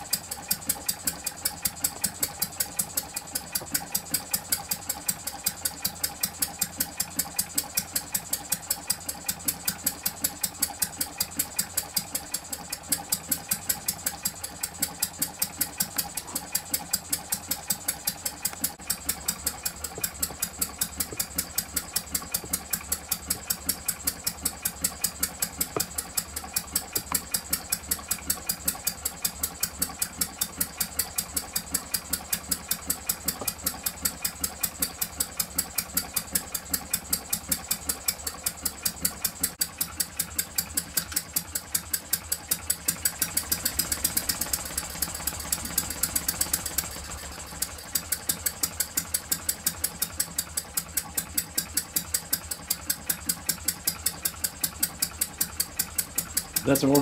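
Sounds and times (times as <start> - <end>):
small engine idling with sharp beat: 0.0 - 57.0.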